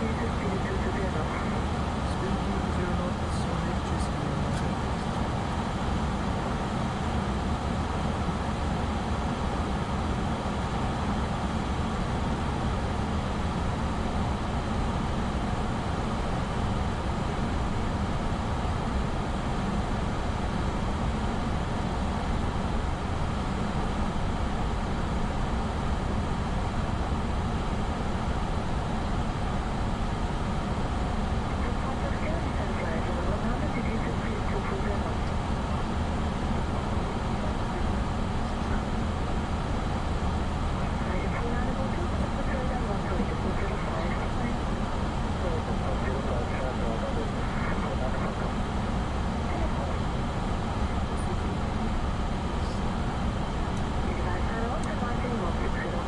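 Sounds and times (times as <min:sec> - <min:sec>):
cockpit rumble and hiss: 0:00.0 - 0:56.0.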